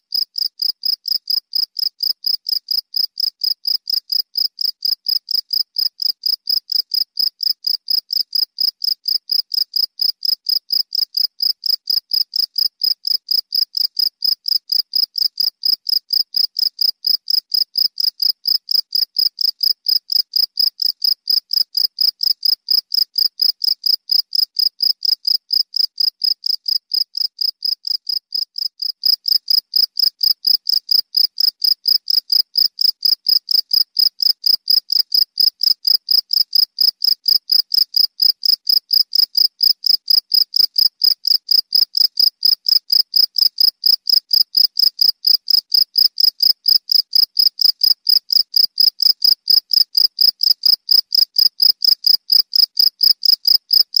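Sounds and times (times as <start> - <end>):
cricket chirping: 0.1 - 54.0.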